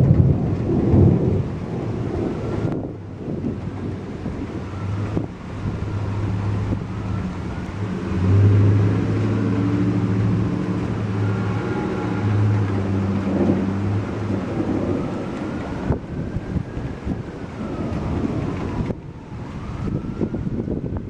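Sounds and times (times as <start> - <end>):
vehicle engine humming: 0.0 - 19.7
rain hissing: 0.0 - 21.0.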